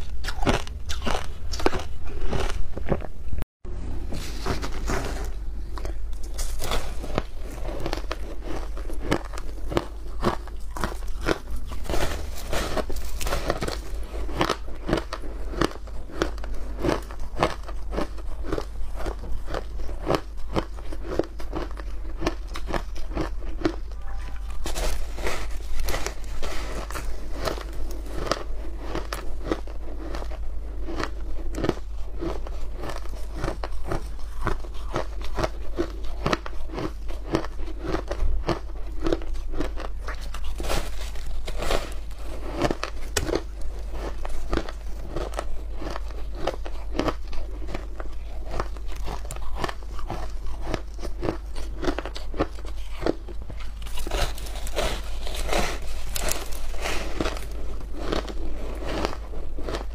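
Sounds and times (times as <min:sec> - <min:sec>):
crunching bites of frozen ice: 0:04.4 - 0:59.9.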